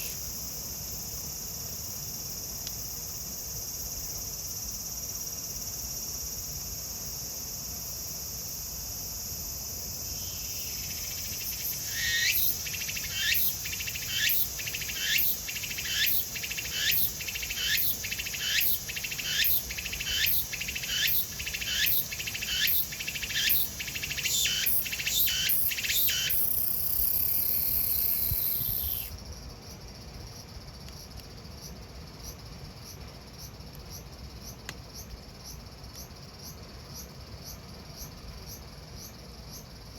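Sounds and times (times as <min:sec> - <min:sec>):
cicada pulsing call: 0:00.0 - 0:39.9
cicadas droning: 0:00.0 - 0:39.9.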